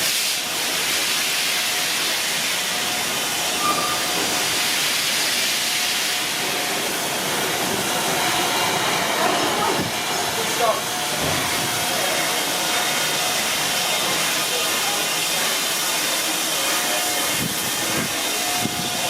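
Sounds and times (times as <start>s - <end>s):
steam hissing from locomotive: 0.0s - 19.0s.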